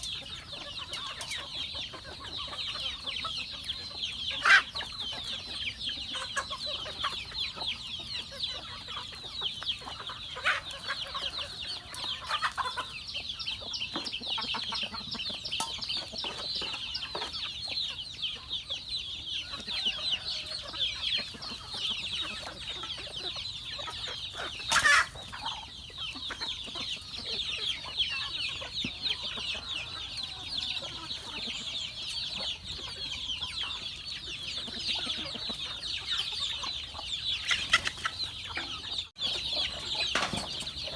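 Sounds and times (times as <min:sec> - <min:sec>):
chickens calling: 0:00.0 - 0:40.9.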